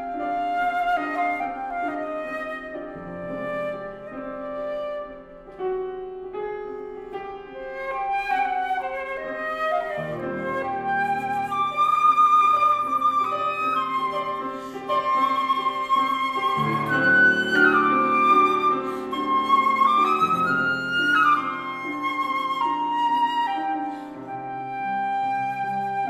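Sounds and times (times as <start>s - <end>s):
flute melody: 0.0s - 26.0s
piano chords: 0.0s - 26.0s.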